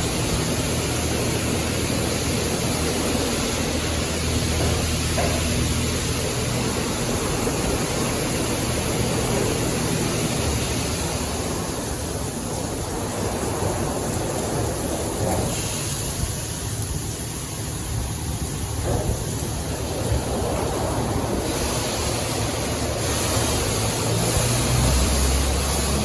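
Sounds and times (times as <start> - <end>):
water jets spraying onto car: 0.0 - 26.0.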